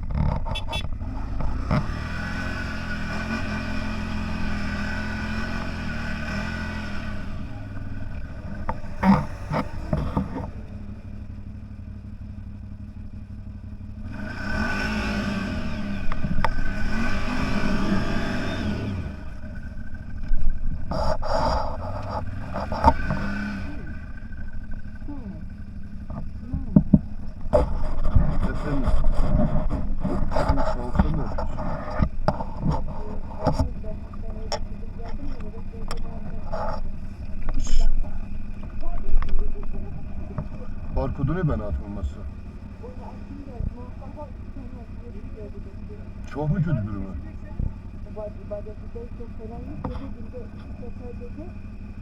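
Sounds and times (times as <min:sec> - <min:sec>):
off-road engine revving: 0:00.0 - 0:52.0
rattling and scraping clatter: 0:00.0 - 0:52.0.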